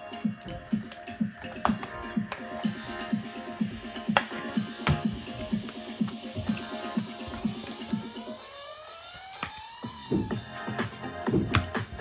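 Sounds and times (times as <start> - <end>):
electronic music with deep kick: 0.0 - 12.0.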